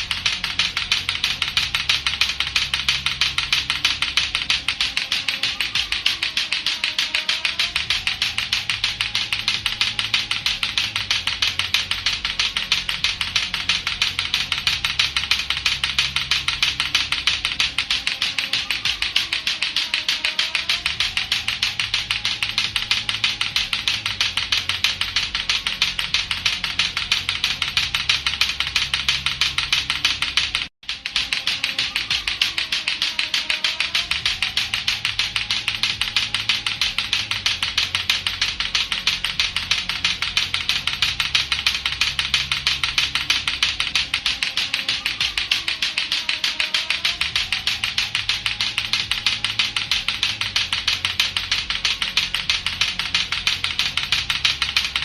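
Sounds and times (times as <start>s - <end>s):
plastic balls clacking together: 0.0s - 55.0s.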